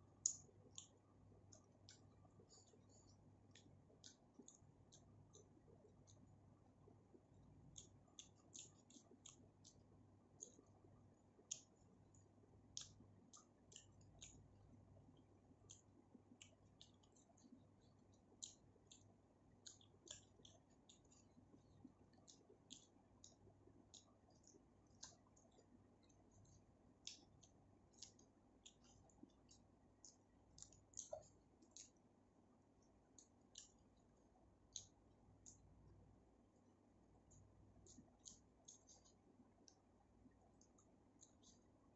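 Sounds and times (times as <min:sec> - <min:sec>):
chewing and eating clicks: 0:00.0 - 0:41.9
faint low hum: 0:00.0 - 0:41.9.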